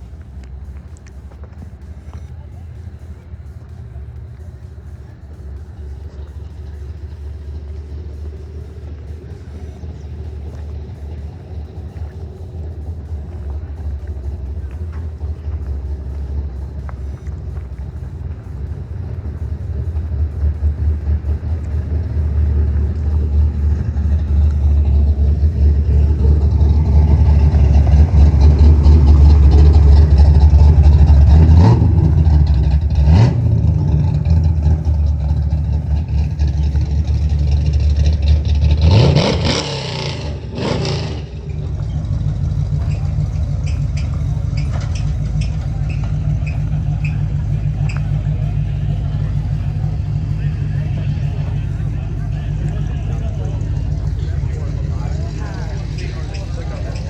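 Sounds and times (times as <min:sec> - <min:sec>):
vehicle engine rumbling and revving: 0:00.0 - 0:57.0.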